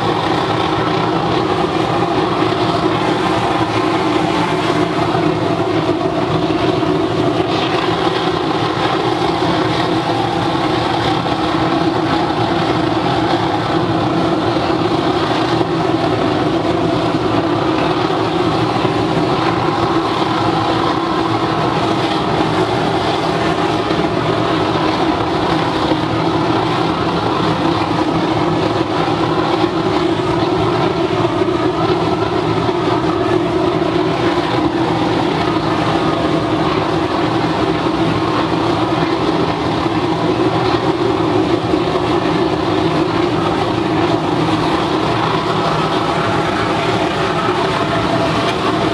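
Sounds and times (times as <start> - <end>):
even hum: 0.0 - 48.9
oil burner flame roaring: 0.0 - 48.9.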